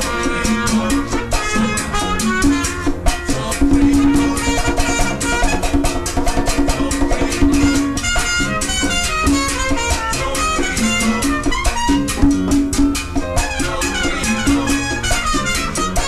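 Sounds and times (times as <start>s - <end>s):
driving percussion rhythm: 0.0s - 16.0s
trumpet melody: 0.0s - 16.0s.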